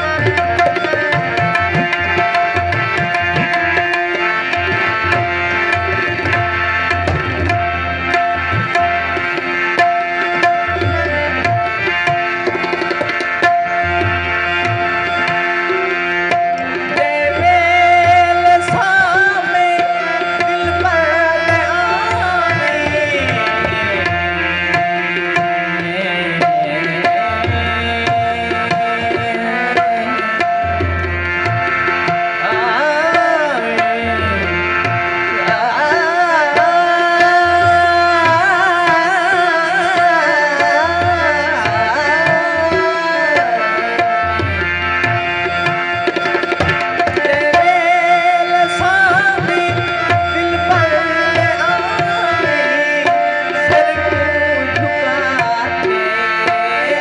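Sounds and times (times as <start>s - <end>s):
harmonium held notes: 0.0s - 57.0s
man singing into a microphone: 0.0s - 57.0s.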